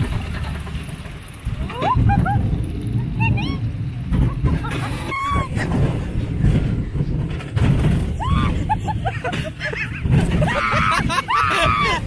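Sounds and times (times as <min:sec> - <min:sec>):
fairground ride rumbling: 0:00.0 - 0:12.0.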